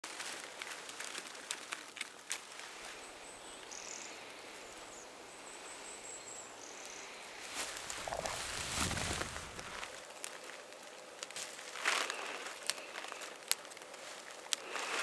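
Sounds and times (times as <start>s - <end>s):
rustling of shrubs: 0.0s - 15.0s.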